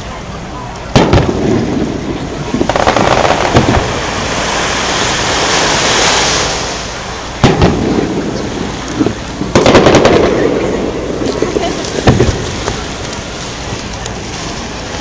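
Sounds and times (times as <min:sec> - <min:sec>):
firework crackling: 0:00.8 - 0:15.0
firework bangs: 0:00.9 - 0:06.6, 0:07.4 - 0:14.8
firework hiss: 0:01.0 - 0:15.0.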